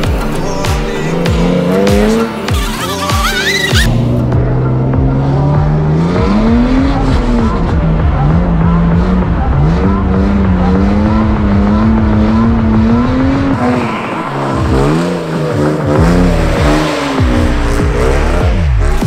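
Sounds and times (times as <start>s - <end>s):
car engine revving high: 0.0s - 19.0s.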